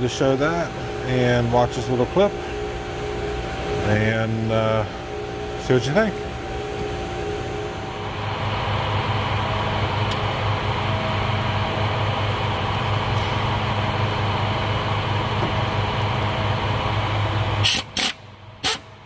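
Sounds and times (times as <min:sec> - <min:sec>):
machine drone with low hum: 0:00.0 - 0:19.0.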